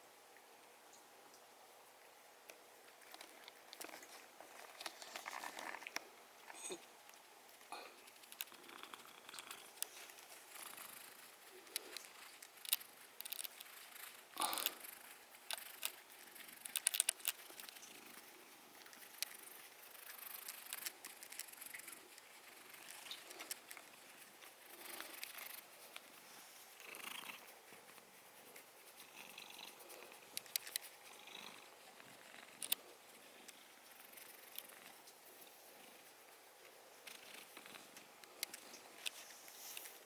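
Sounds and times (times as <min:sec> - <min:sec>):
small clicks and rustles: 0:00.4 - 0:40.0
cat purring softly: 0:07.7 - 0:40.0.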